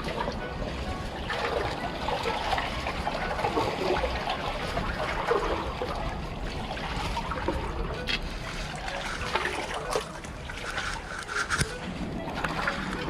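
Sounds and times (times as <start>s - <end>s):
water trickling and sloshing: 0.0s - 13.0s.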